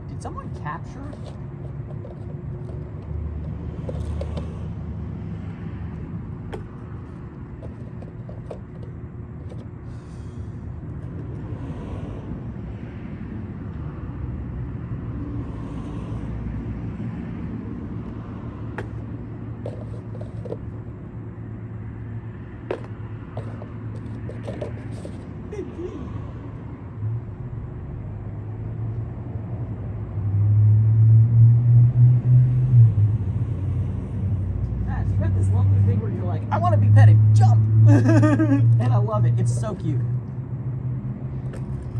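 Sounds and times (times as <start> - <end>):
motor vehicle rumble: 0.0 - 41.9.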